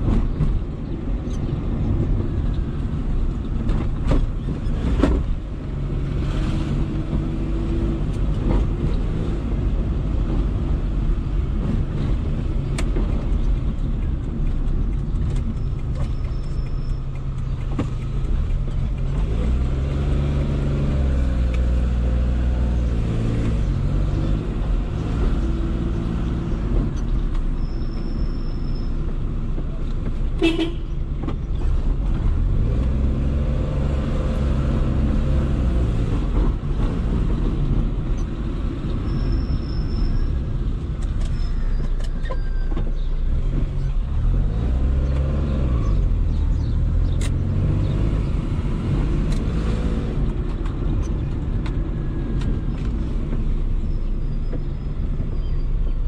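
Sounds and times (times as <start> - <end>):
road and tyre noise: 0.0 - 56.0.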